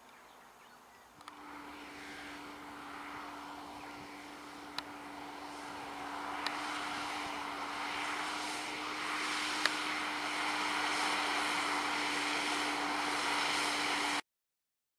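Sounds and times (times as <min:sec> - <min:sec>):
tractor diesel engine under load: 0:01.2 - 0:14.2
plough rushing through soil: 0:01.3 - 0:14.2.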